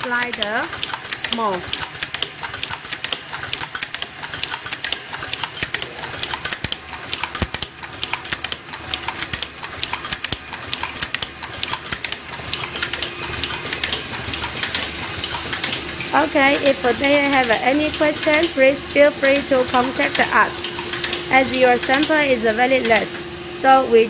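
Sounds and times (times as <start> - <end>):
machine clicking and clattering: 0.0 - 23.4.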